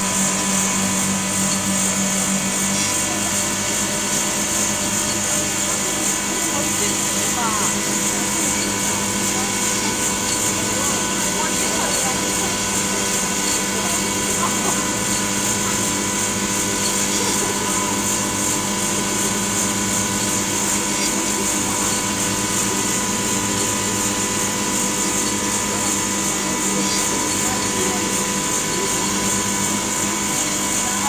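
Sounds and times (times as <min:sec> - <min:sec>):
machine drone: 0:00.0 - 0:31.0.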